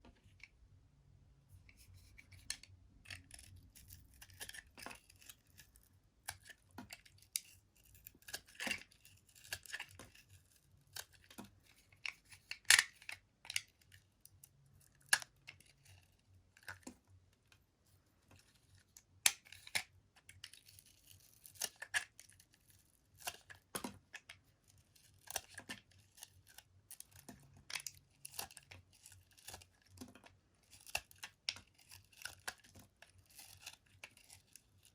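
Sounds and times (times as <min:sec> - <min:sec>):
knife cutting through soap: 0:01.7 - 0:14.0, 0:18.4 - 0:34.9.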